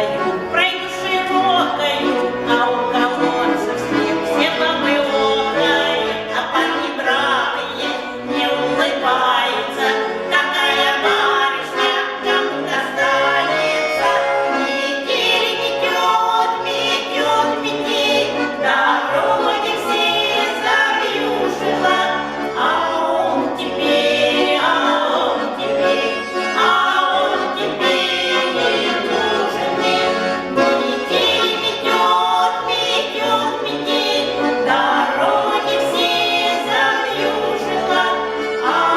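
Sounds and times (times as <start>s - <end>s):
instrumental accompaniment: 0.0s - 38.9s
vocal group singing in harmony: 0.0s - 38.9s.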